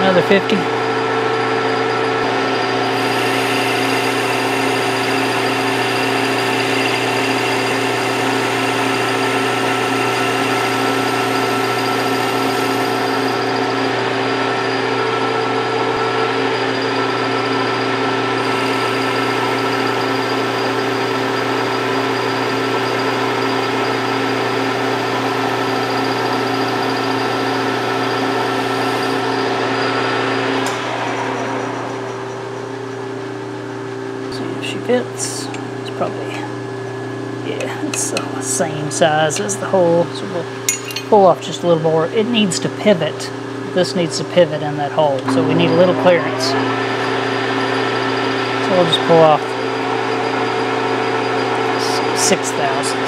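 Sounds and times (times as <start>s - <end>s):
metal lathe gear whine: 0.0s - 53.0s.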